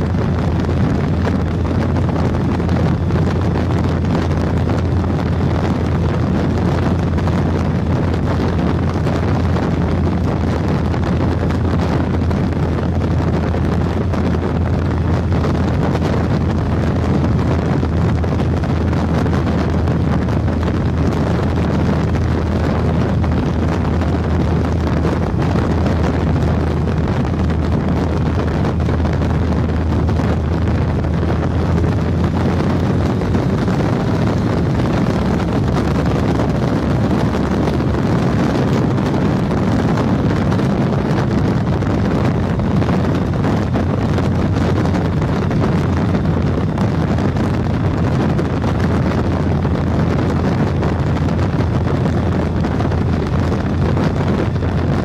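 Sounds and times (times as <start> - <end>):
motorcycle engine cruising: 0.0 - 55.0
wind buffeting microphone: 0.0 - 55.0.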